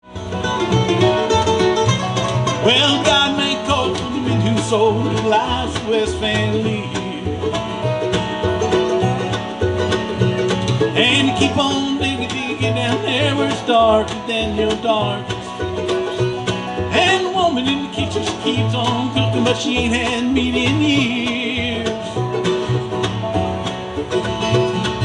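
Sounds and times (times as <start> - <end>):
live country band playing: 0.0 - 25.0.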